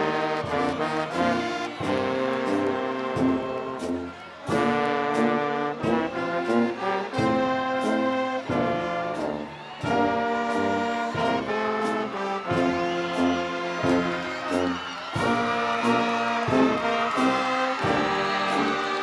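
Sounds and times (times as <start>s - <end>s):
brass ensemble playing chords: 0.0s - 19.0s.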